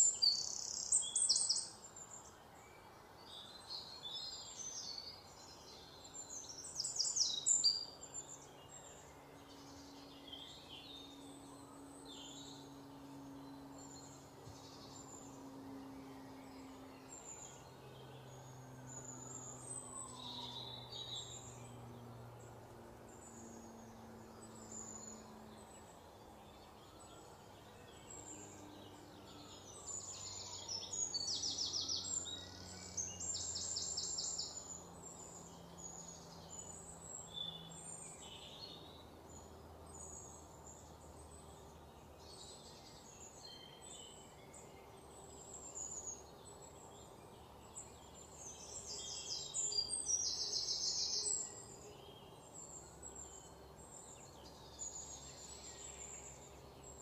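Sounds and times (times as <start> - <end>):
faint low hum: 0.0 - 57.0
small birds chirping: 0.0 - 57.0.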